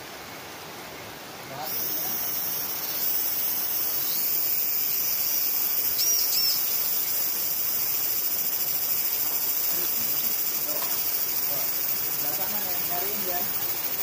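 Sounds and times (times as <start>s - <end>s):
insects shrilling: 1.6s - 14.0s
bird chirps: 1.7s - 14.0s.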